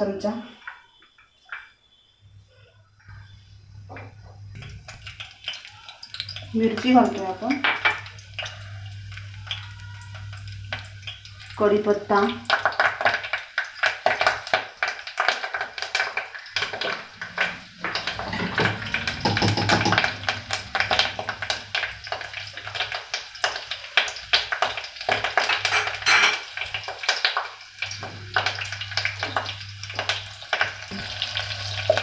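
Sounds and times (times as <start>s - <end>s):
spices spluttering in hot oil: 3.0s - 32.0s.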